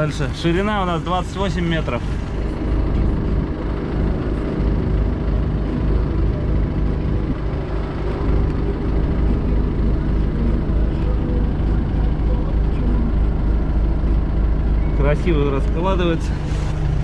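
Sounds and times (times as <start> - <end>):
engine running steadily: 0.0 - 17.0
hydraulics whirring: 0.0 - 17.0.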